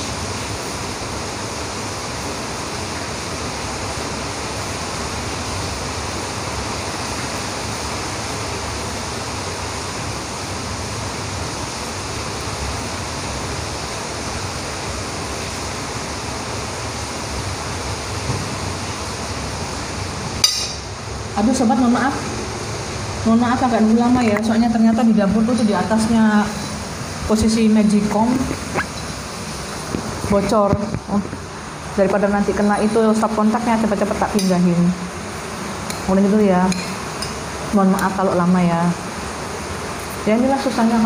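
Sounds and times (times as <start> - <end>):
rain pouring: 0.0 - 41.0.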